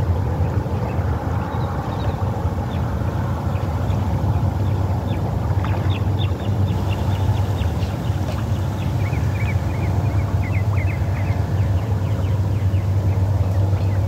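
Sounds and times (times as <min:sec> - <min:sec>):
wind buffeting microphone: 0:00.0 - 0:14.0
small birds chirping: 0:00.4 - 0:14.0.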